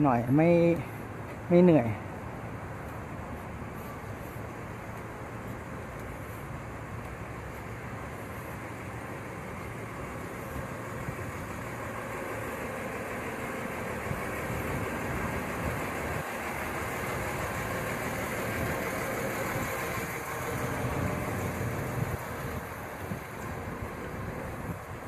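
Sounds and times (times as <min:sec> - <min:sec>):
city street traffic: 0:00.0 - 0:25.0
truck engine idling: 0:00.0 - 0:25.0.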